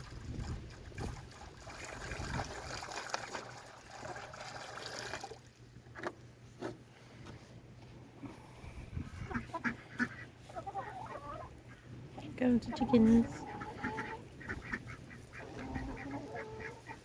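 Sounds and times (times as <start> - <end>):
water trickling and splashing: 0.0 - 6.3, 9.4 - 17.0.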